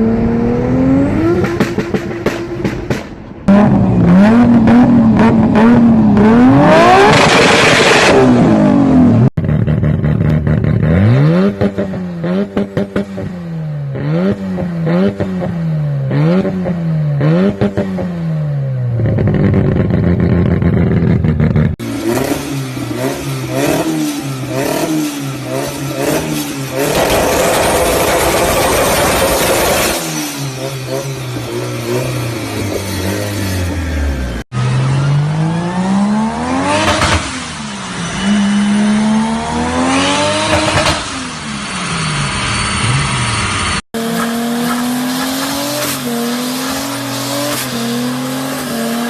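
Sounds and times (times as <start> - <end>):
turbocharged car engine revving: 0.0 - 49.0.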